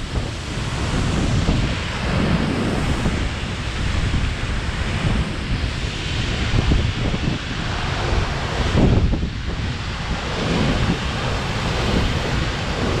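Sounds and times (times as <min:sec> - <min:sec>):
waterfall roaring: 0:00.0 - 0:13.0
wind buffeting microphone: 0:00.0 - 0:13.0.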